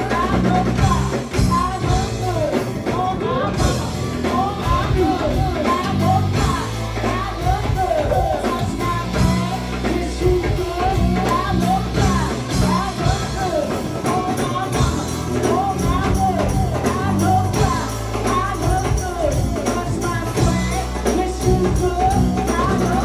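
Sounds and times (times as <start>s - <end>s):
bass line: 0.0s - 23.0s
live band playing: 0.0s - 23.0s
people singing: 0.0s - 23.0s.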